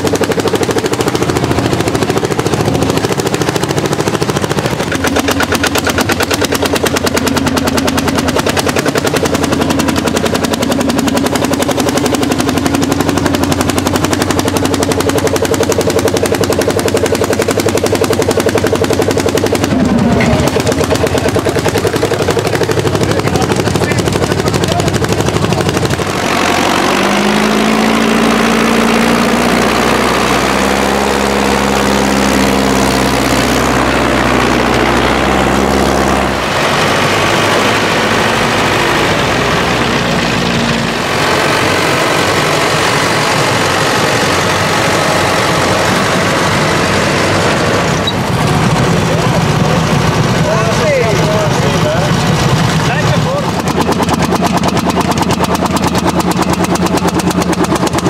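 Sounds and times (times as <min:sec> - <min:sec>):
diesel tractor engine running: 0:00.0 - 0:58.0
tractor engine pounding: 0:00.0 - 0:58.0.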